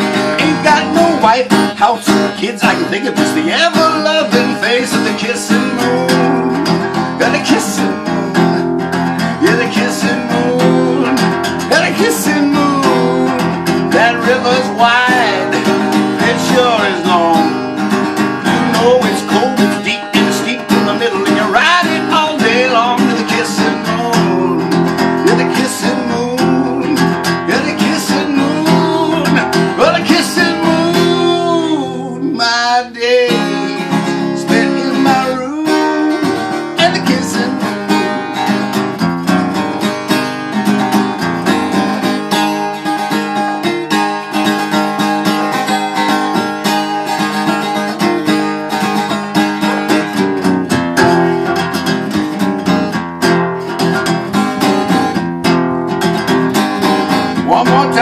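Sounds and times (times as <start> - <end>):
acoustic guitar strummed in chords: 0.0 - 58.0.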